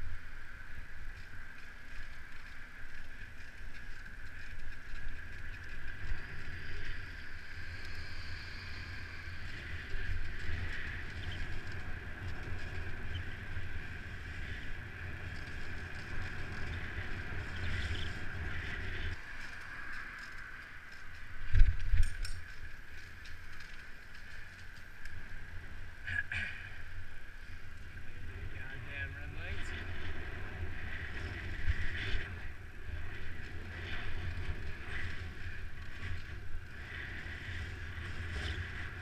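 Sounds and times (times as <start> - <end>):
bike riding rumble: 0.0 - 39.0
wind buffeting microphone: 0.0 - 39.0.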